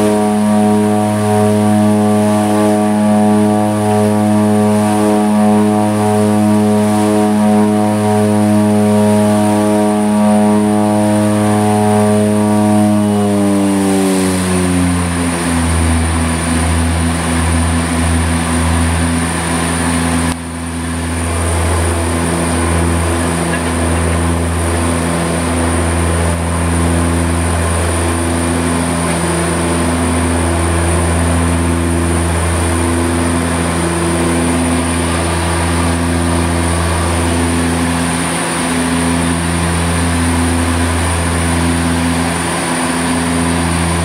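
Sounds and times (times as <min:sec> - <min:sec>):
high turbine whine: 0:00.0 - 0:44.0
propeller beat wavering: 0:00.0 - 0:44.0
turboprop engines droning: 0:00.0 - 0:44.0.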